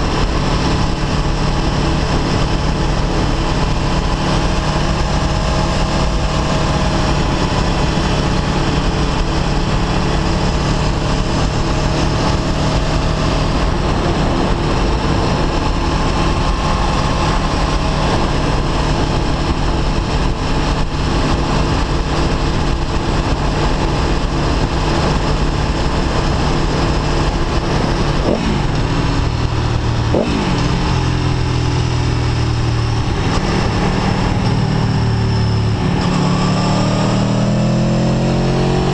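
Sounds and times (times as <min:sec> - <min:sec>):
motorcycle engine running: 0:00.0 - 0:38.9
wind noise: 0:00.0 - 0:38.9.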